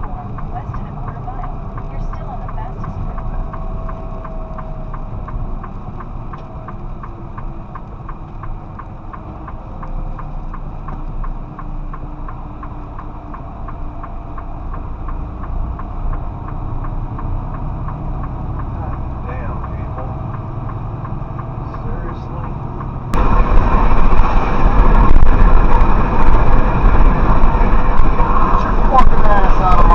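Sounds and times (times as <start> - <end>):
light even ticking: 0.0 - 29.9
truck engine and road rumble: 0.0 - 29.9.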